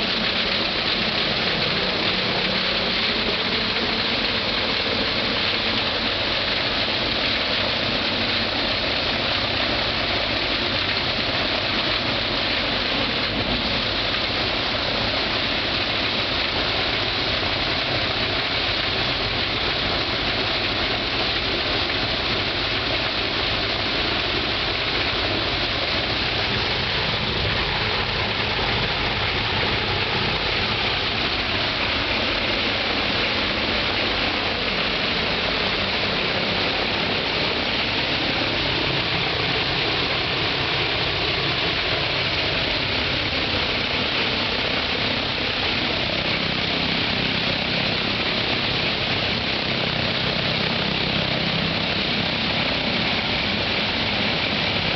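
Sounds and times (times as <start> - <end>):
radial piston engine running: 0.0 - 54.9.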